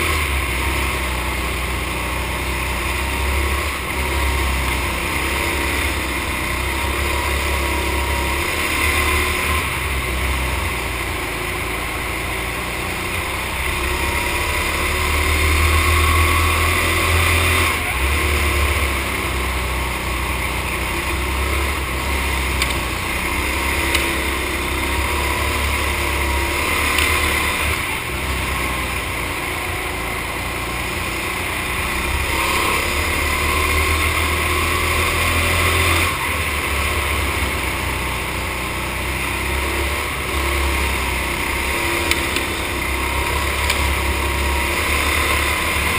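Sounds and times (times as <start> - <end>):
go-kart engine running hard: 0.0 - 45.9.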